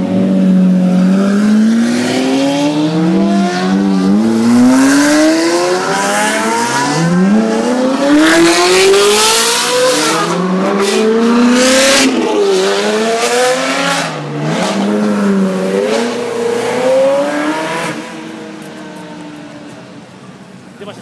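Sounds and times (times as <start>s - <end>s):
car engine revving: 0.0s - 19.7s.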